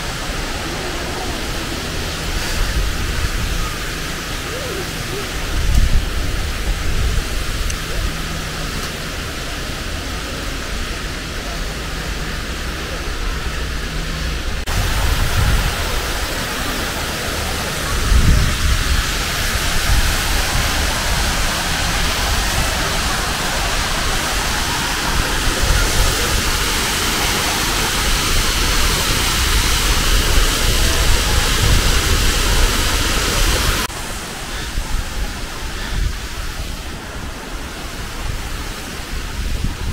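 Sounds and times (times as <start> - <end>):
wind rumble on microphone: 0.0 - 8.7, 13.0 - 39.9
rush of falling water: 0.0 - 39.9.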